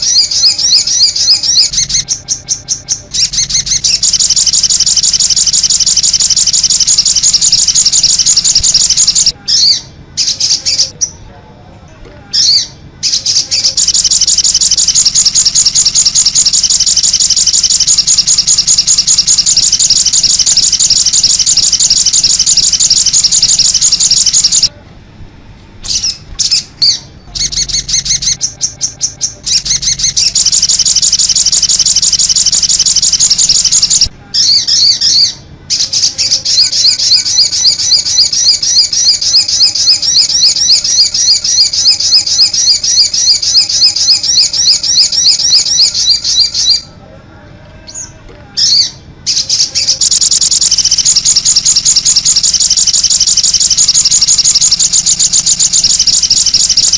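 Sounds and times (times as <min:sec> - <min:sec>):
bird singing high-pitched song: 0:00.0 - 0:11.2, 0:12.3 - 0:24.7, 0:25.8 - 0:46.9, 0:47.9 - 0:56.9.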